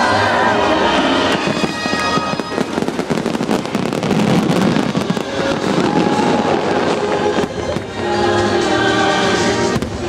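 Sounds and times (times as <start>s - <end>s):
fireworks bursts and crackles: 0.0s - 10.0s.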